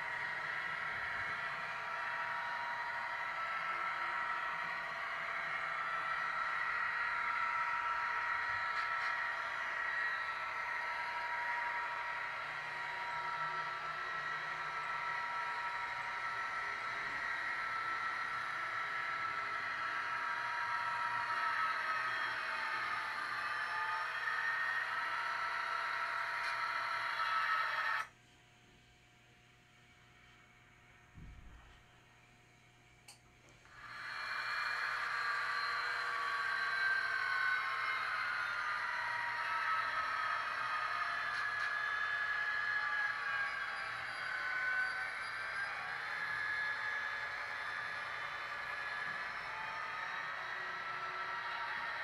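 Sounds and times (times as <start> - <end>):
model locomotive motor whirring: 0.0 - 28.1, 33.6 - 52.0.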